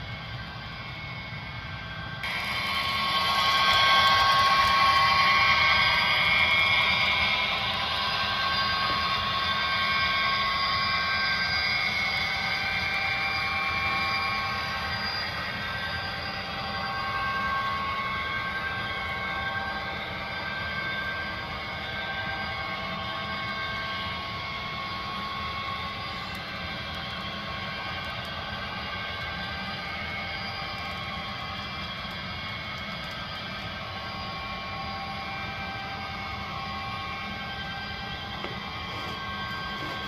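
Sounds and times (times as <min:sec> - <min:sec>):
model locomotive motor whine: 0:00.0 - 0:40.0.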